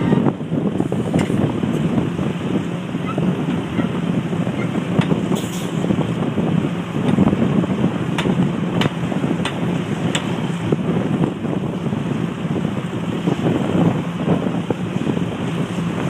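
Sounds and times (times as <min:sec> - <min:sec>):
engine rumbling: 0:00.0 - 0:16.0
wind buffeting microphone: 0:00.0 - 0:16.0.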